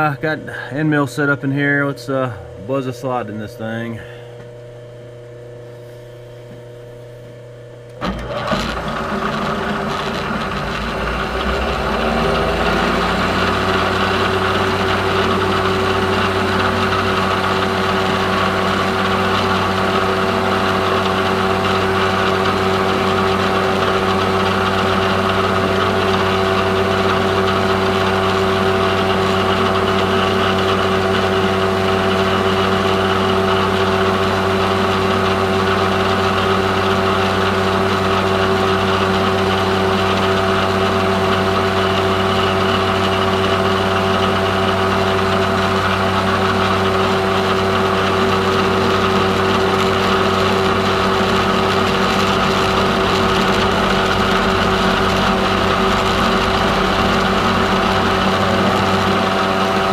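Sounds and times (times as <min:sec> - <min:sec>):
milling machine cutting metal: 0:07.9 - 0:59.9.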